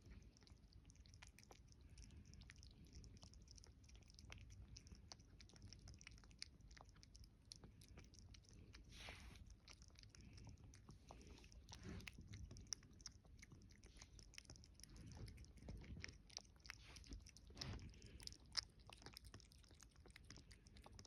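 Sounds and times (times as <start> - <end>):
cat chewing crunchy food: 0.0 - 21.0.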